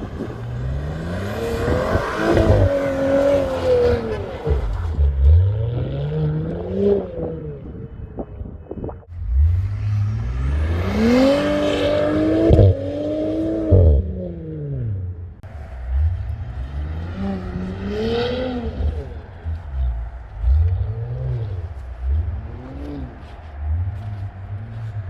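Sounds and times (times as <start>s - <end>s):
exhaust pops: 0.0s - 14.2s, 15.4s - 25.0s
car engine revving: 0.0s - 25.0s.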